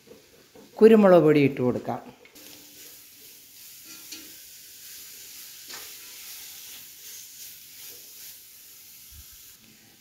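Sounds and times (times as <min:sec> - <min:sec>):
wooden spoon stirring in pan: 0:00.0 - 0:00.9, 0:02.4 - 0:10.0
onions sizzling in oil: 0:00.0 - 0:01.6, 0:02.4 - 0:10.0.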